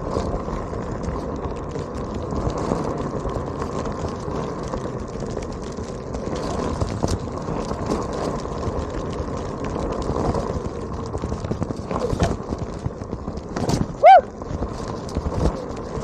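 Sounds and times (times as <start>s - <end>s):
wheel rumbling over gravel: 0.0s - 16.0s.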